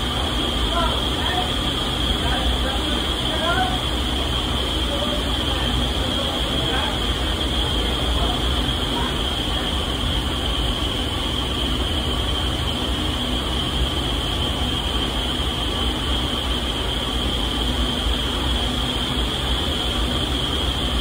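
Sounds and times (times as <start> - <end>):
high hiss: 0.0 - 21.0
wind tunnel air rush: 0.0 - 21.0.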